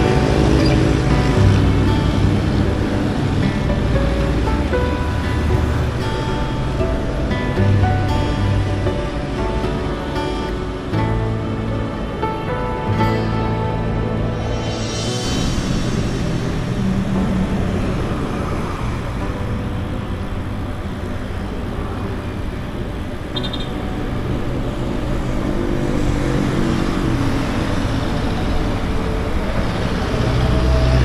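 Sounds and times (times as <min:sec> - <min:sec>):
bicycle rolling noise: 0:00.0 - 0:13.0, 0:15.6 - 0:31.0
bus passing: 0:00.0 - 0:31.0
road traffic passing: 0:00.0 - 0:31.0
wind rushing: 0:00.0 - 0:31.0.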